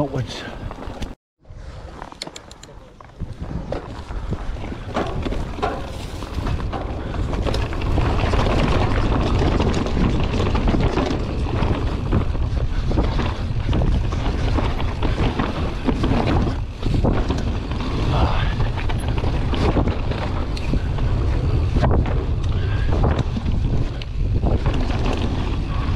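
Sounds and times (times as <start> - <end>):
tyres rushing on dirt trail: 1.6 - 25.9
wind buffeting microphone: 2.8 - 25.9
bike knocks and rattles: 3.1 - 25.9.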